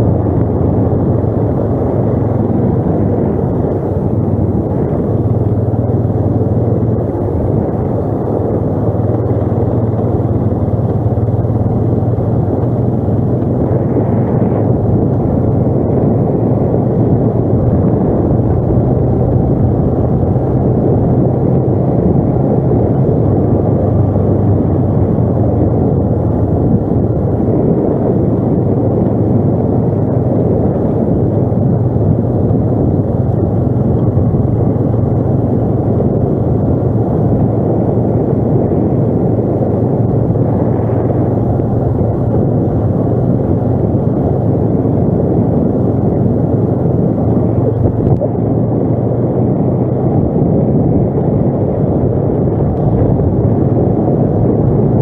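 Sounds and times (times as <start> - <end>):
atv engine droning: 0.0 - 55.0.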